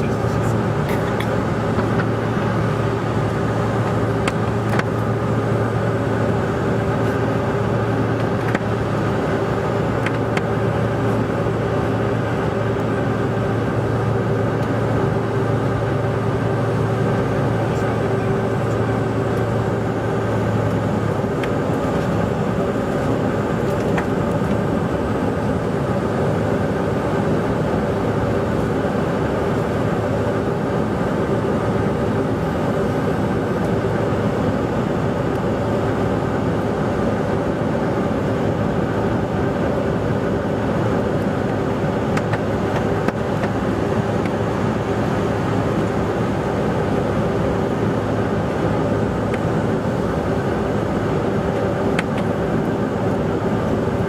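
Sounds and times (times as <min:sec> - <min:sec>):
jet engine and airflow cabin noise: 0:00.0 - 0:54.0.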